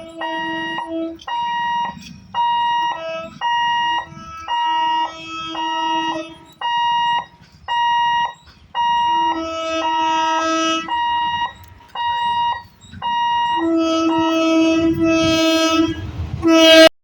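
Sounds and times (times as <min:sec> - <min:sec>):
level crossing alarm beeping: 0:00.0 - 0:16.1.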